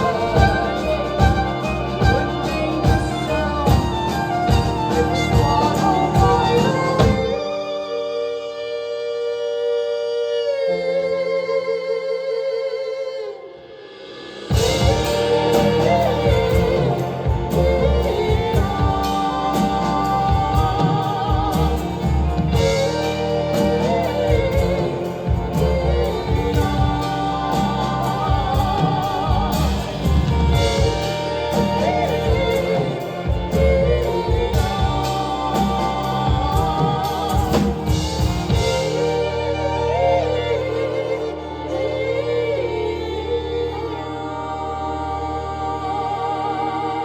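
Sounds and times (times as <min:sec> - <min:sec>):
live band playing: 0:00.0 - 0:11.2, 0:13.5 - 0:47.0
person singing with vibrato: 0:00.0 - 0:47.0.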